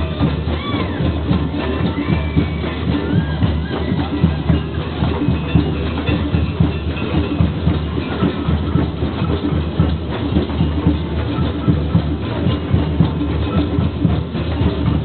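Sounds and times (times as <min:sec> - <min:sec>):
hand drums playing together: 0:00.0 - 0:15.0.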